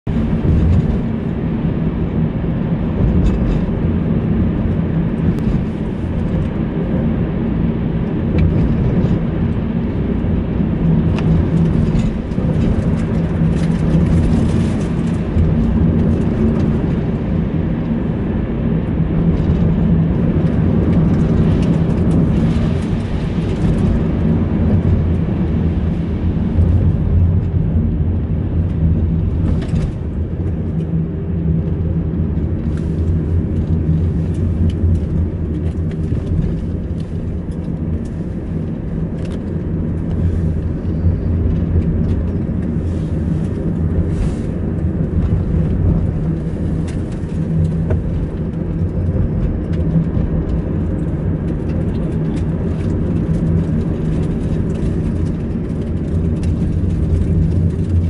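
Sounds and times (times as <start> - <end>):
car engine and tyre drone: 0.0 - 58.0.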